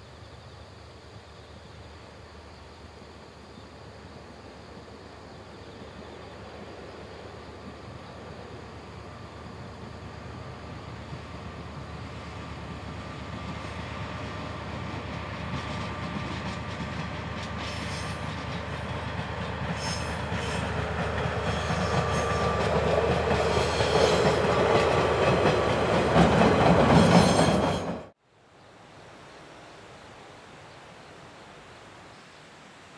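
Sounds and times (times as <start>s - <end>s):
diesel locomotive engine drone: 0.0s - 28.2s.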